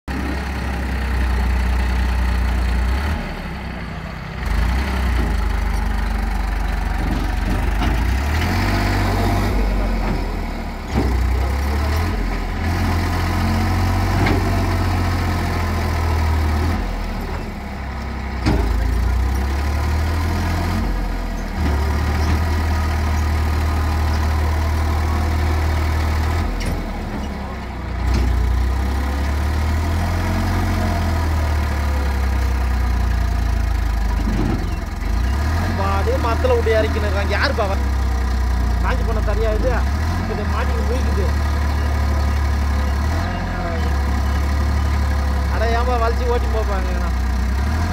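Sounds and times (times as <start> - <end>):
tractor engine under load: 0.1 - 47.9.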